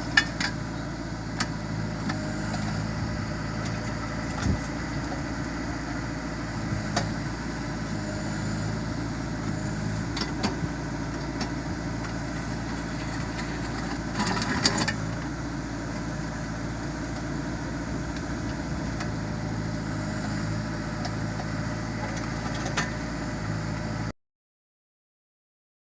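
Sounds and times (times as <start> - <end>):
diesel engine idling: 0.0 - 24.1.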